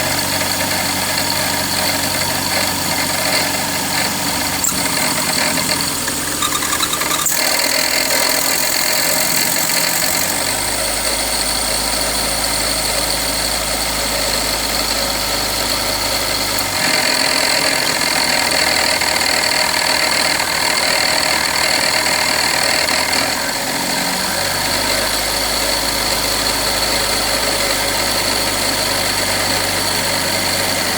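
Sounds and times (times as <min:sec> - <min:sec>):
engine idling: 0:00.0 - 0:30.9
water pump whine: 0:00.0 - 0:30.9.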